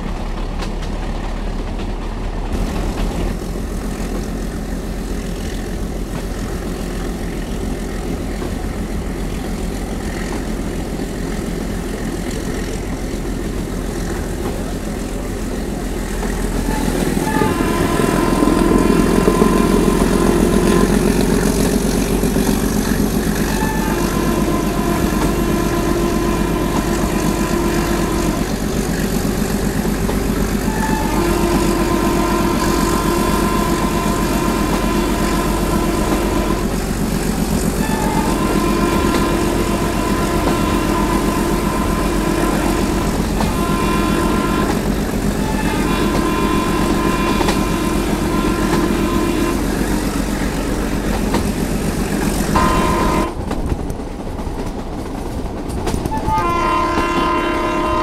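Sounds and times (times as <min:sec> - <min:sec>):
diesel train engine drone: 0:00.0 - 0:58.0
higher humming tone: 0:02.9 - 0:53.6.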